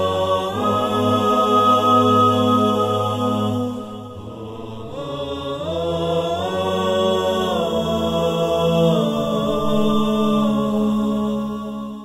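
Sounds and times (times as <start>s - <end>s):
chanted voices holding long notes: 0.0s - 12.0s.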